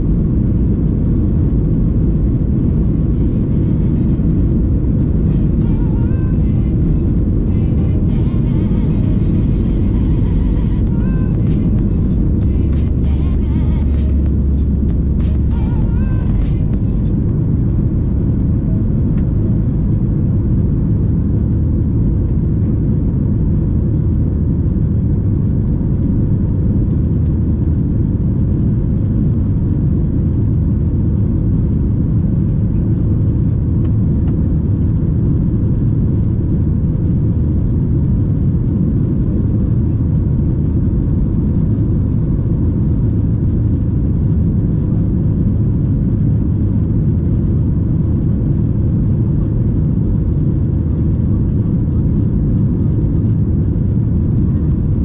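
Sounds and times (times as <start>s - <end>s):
airplane cabin rumble: 0.0s - 55.0s
faint constant hum: 0.0s - 55.0s.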